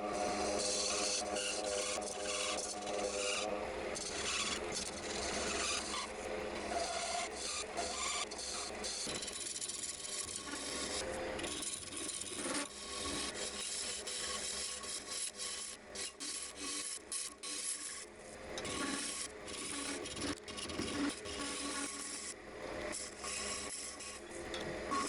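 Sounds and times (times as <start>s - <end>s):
lathe humming: 0.0s - 25.0s.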